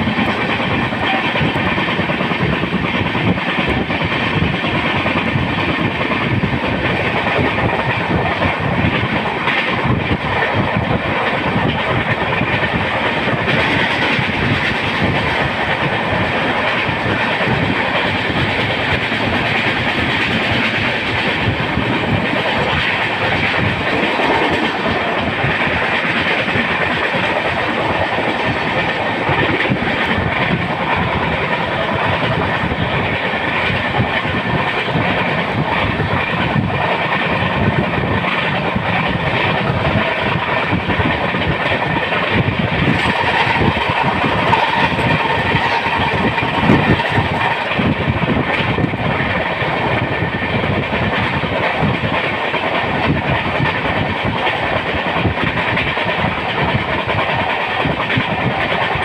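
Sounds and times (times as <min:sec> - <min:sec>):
train rumbling with wheel clicks: 0:00.0 - 0:59.0.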